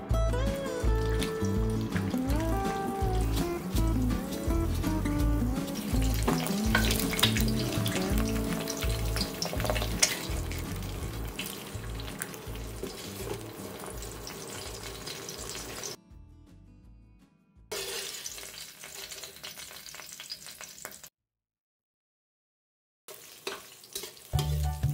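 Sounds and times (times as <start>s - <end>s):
egg sizzling in hot oil: 0.8s - 16.0s, 17.7s - 21.1s, 23.1s - 24.9s.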